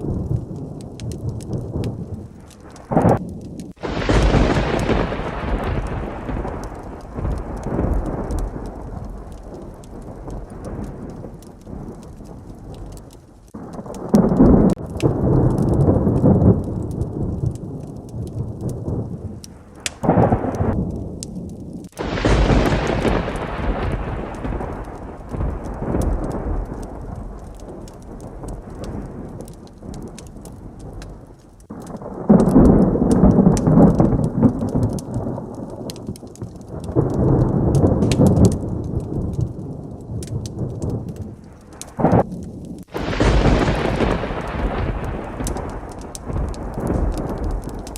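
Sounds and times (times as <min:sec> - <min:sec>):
heavy rain: 0:00.0 - 0:47.9
sharp thunderclap: 0:00.0 - 0:47.9
thunder rumbling: 0:00.0 - 0:47.9.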